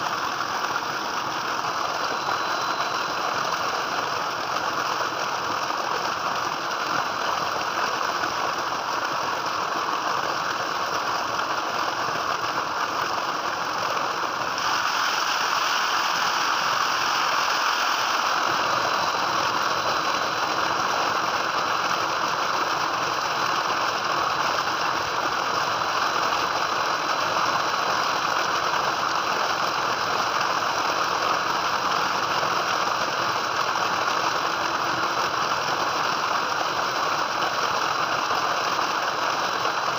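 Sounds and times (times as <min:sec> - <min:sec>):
water gushing into concrete tank: 0:00.0 - 0:39.9.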